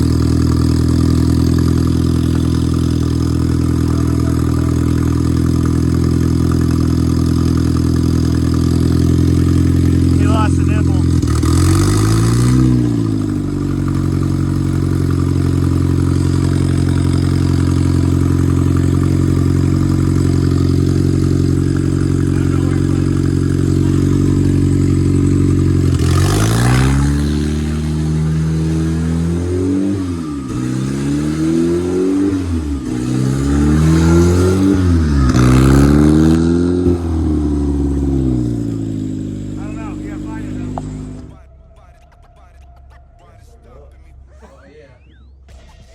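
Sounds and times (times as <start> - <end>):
car engine revving and idling: 0.0 - 45.9.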